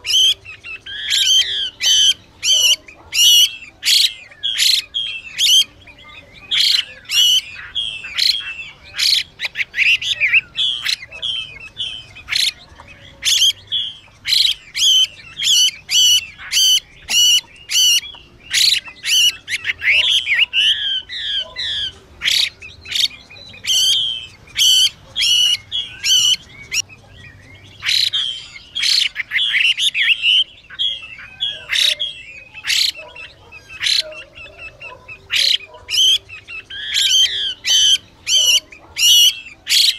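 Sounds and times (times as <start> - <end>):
bird calling with rasping notes: 0.0 - 39.9.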